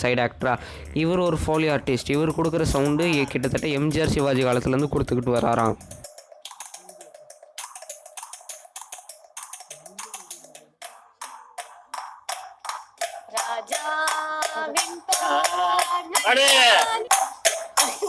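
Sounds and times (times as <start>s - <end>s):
sharp taps and clicks: 1.3s - 18.0s.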